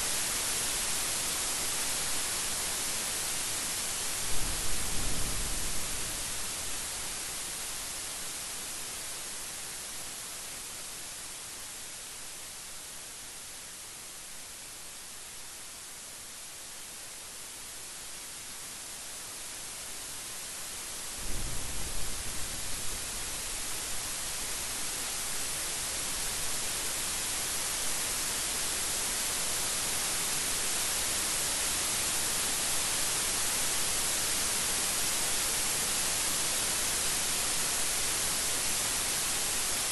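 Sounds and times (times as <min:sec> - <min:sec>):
heavy rain hissing: 0:00.0 - 0:11.9, 0:19.5 - 0:39.9.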